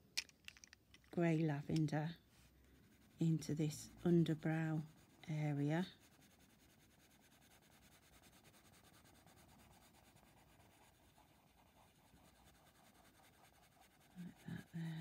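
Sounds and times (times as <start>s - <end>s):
pencil scratching on paper: 2.7s - 15.0s.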